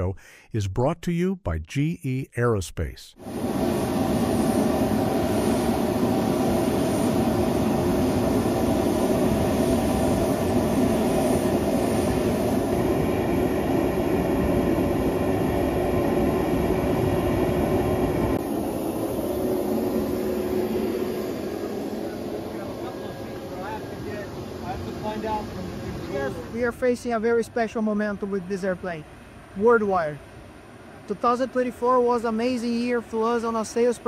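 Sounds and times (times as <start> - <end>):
aircraft turbine rumble and whine: 3.2 - 34.0.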